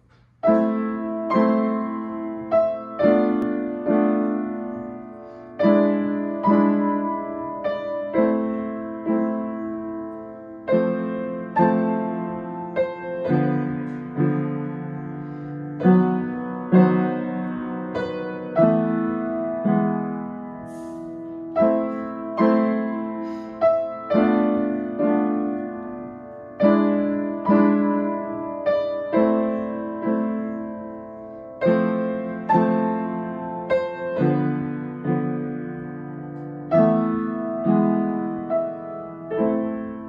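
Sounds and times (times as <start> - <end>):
slow piano piece: 0.0 - 40.0.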